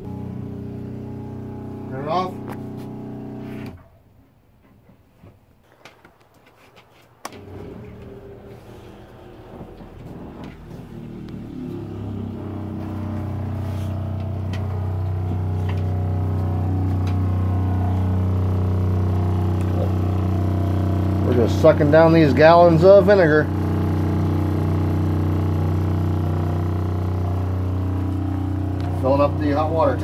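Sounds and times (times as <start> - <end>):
water pump humming: 0.0 - 3.8, 7.2 - 30.0.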